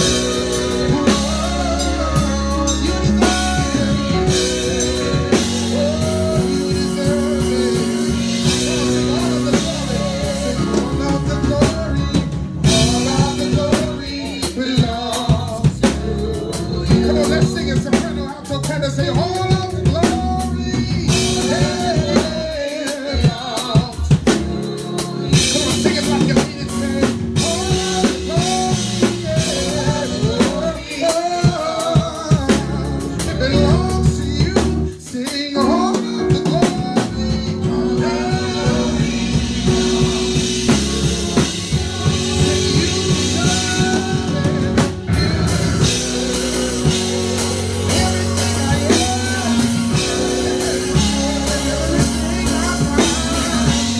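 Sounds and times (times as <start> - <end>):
drum kit beat: 0.0 - 53.9
organ chords: 0.0 - 53.9
person singing melody: 0.0 - 53.9.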